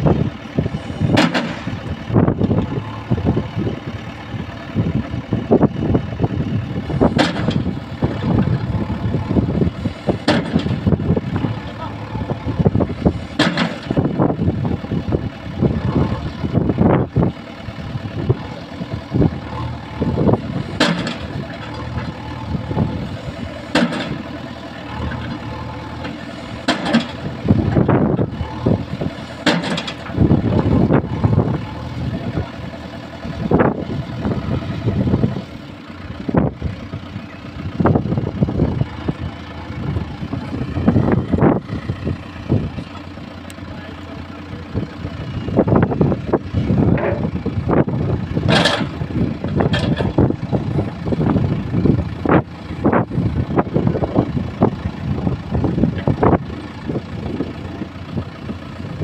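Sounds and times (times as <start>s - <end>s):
diesel machine engine running: 0.0s - 59.0s.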